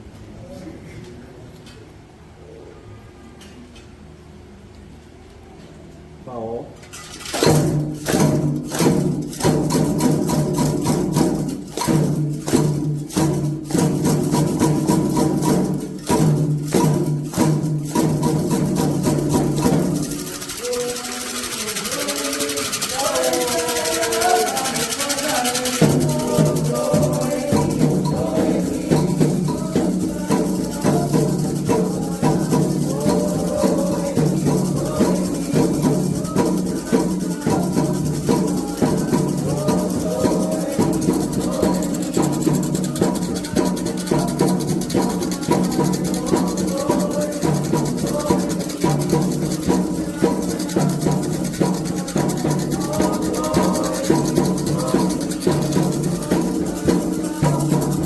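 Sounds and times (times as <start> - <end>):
hand drums and shakers: 6.8 - 58.0
voices singing: 7.5 - 58.0.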